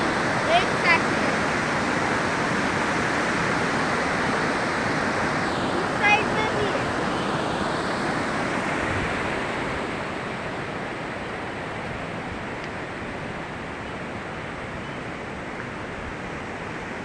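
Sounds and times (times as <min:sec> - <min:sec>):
fast water rushing: 0:00.0 - 0:17.0.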